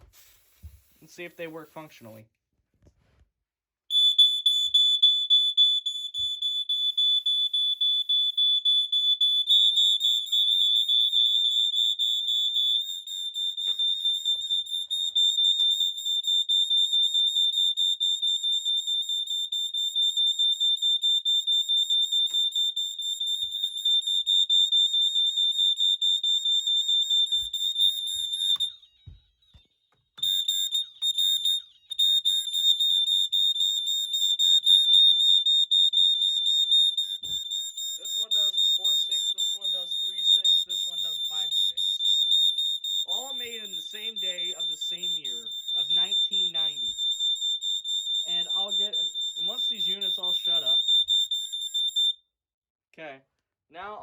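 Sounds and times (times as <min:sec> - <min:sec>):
smoke alarms shrilling: 0:03.9 - 0:52.2.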